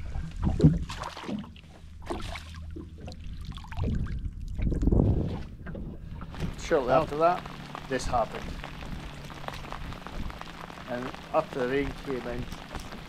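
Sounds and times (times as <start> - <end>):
water splashing and trickling: 0.0 - 13.0
low rumble: 1.6 - 13.0.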